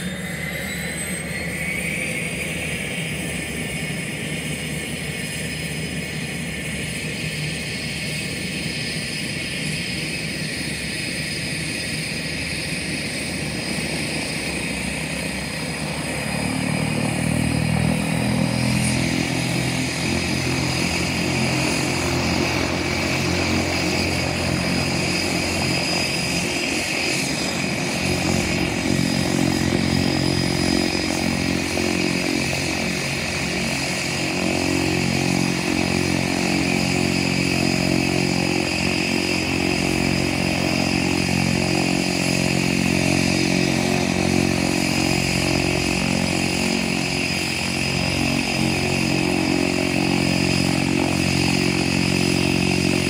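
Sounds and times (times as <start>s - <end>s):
propeller drone: 0.0s - 53.0s
turbine whine: 0.0s - 53.0s.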